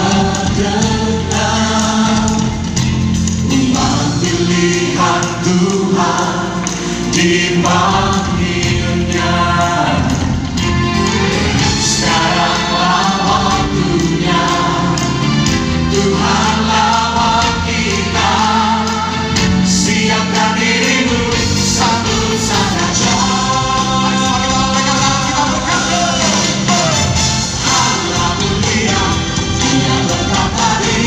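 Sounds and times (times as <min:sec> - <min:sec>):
band accompaniment with bass: 0:00.0 - 0:31.0
choir singing worship song: 0:00.0 - 0:31.0.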